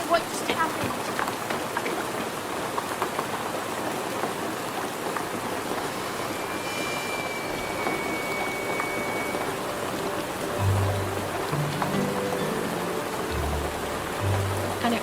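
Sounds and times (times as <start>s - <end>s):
drips ticking: 0.0s - 15.0s
rain falling: 0.0s - 15.0s.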